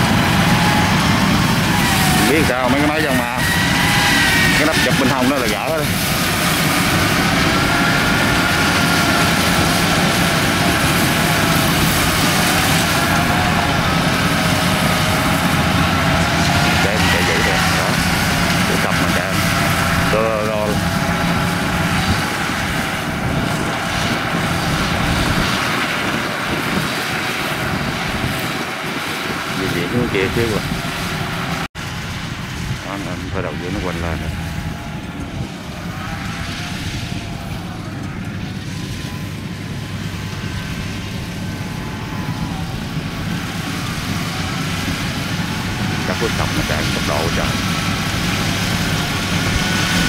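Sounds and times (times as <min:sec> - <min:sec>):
combine harvester running: 0:00.0 - 0:50.0.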